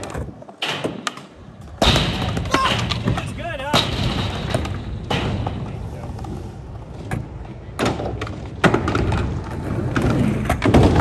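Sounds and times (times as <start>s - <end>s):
skateboard hitting the ground: 0.0s - 5.7s, 7.0s - 11.0s
skateboard wheels rolling on concrete: 0.0s - 11.0s.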